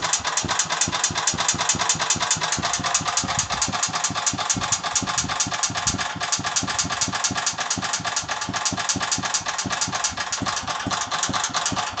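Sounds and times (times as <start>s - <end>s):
tractor engine idling with knock: 0.0s - 12.0s.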